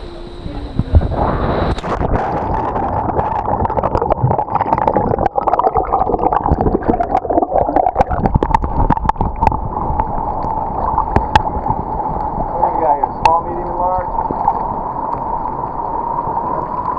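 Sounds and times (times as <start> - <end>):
underwater churning water: 0.0 - 16.9
bubble crackles: 0.8 - 16.9.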